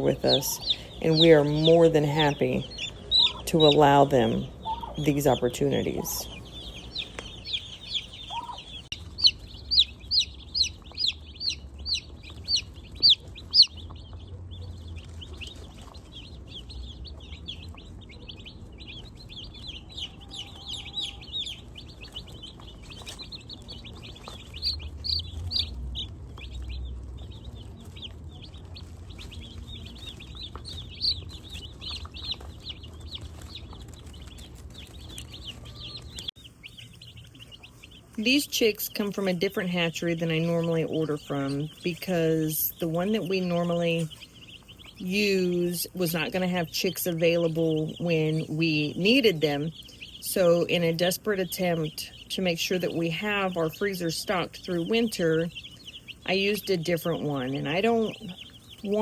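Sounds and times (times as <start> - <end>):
chicks peeping: 0.0 - 59.0
loud evenly spaced peeps: 0.0 - 59.0.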